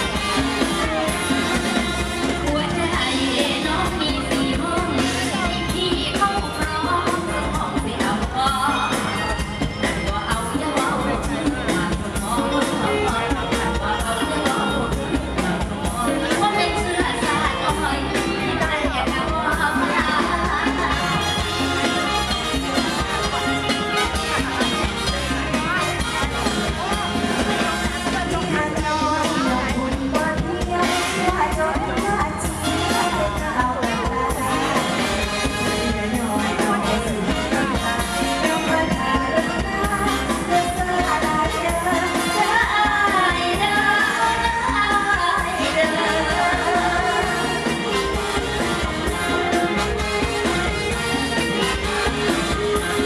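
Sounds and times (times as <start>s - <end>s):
steady drum beat: 0.0s - 8.6s, 9.2s - 53.0s
woman singing: 0.0s - 22.1s, 24.0s - 53.0s
live band over loudspeakers: 0.0s - 53.0s.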